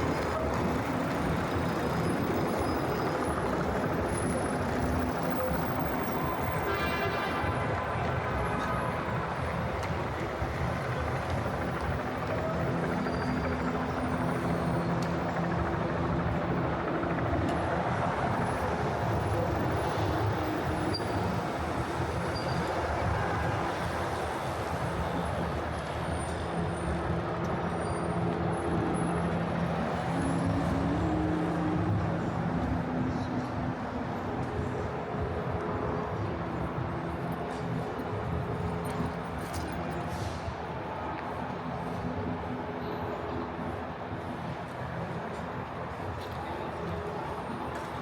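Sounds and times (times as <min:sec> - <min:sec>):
vehicles passing: 0:00.0 - 0:48.0.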